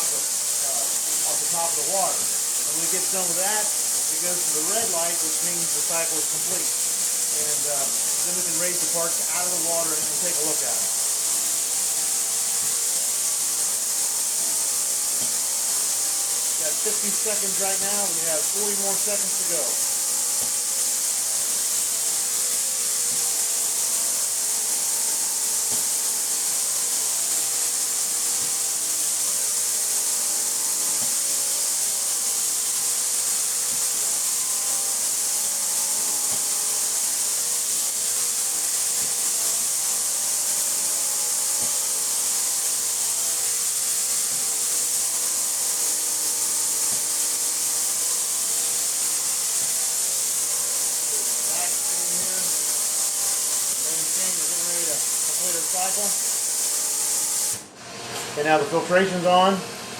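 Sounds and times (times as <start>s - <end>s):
ultrasonic cleaner hiss and hum: 0.0s - 59.9s.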